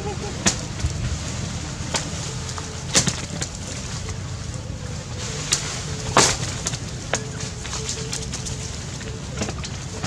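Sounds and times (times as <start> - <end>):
background hiss: 0.0 - 10.0
faint steady hum: 0.0 - 10.0.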